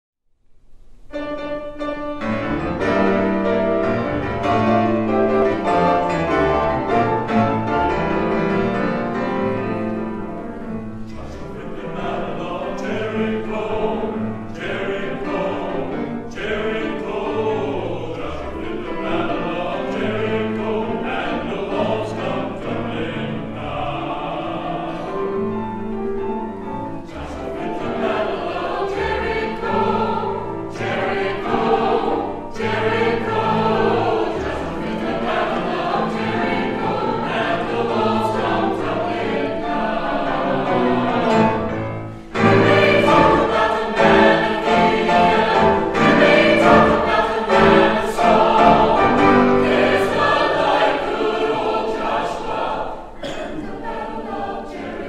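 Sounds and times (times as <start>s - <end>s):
piano accompaniment: 1.0s - 55.0s
choir singing: 1.1s - 55.0s.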